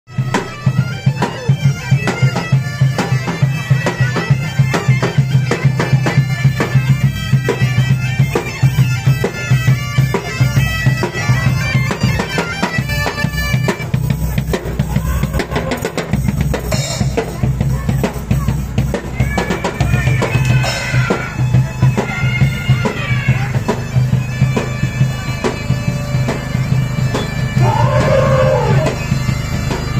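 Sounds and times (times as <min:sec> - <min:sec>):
bagpipes playing tune: 0:00.1 - 0:29.9
drums beating: 0:00.1 - 0:29.9.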